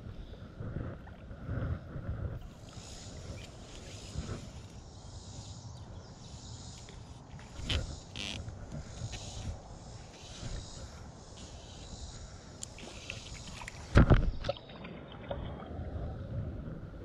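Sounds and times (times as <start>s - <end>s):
river water: 0.0s - 17.0s
wind: 0.0s - 17.0s.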